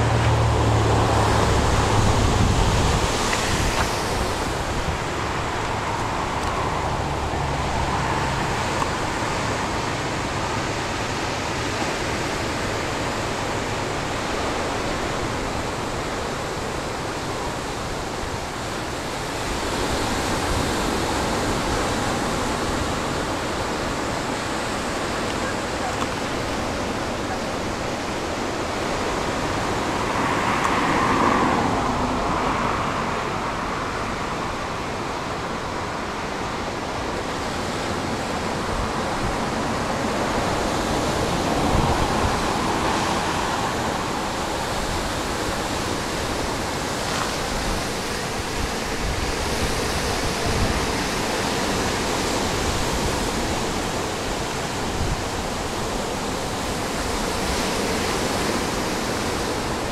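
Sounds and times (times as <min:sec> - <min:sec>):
ocean surf breaking on beach: 0:00.0 - 0:59.9.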